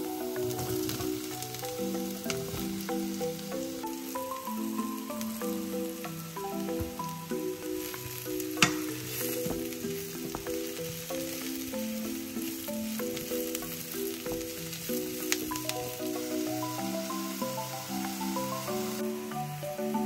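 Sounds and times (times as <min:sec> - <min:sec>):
mushrooms and onion sizzling: 0:00.0 - 0:20.0
soft background music: 0:00.0 - 0:20.0.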